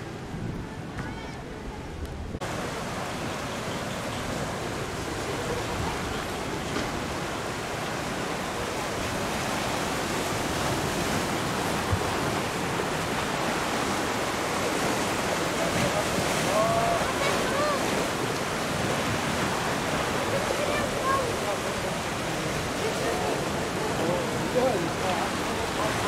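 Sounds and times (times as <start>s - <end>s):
surf breaking over rocks: 0.0s - 26.0s.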